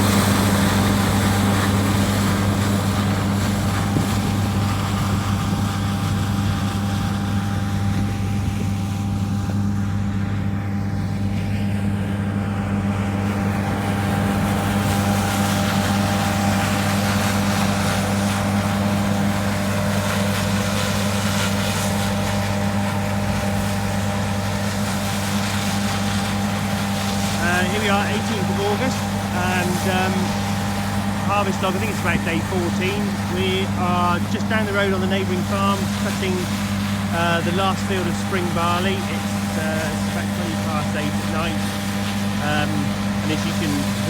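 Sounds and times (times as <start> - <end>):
combine harvester engine hum: 0.0 - 44.0
faint steady whine: 0.0 - 44.0.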